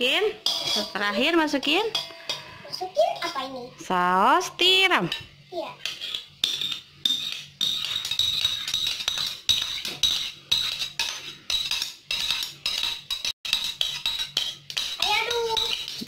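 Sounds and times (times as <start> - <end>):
spoons clinking against metal bowl: 0.0 - 2.6, 5.0 - 16.0.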